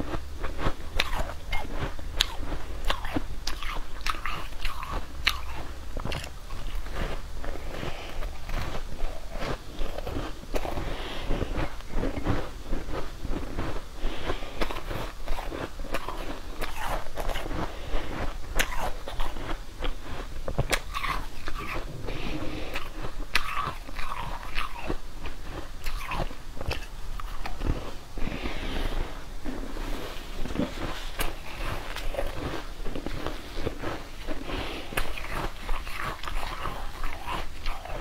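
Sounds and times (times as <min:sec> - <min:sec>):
crunchy chewing of frozen food: 0:00.0 - 0:38.0.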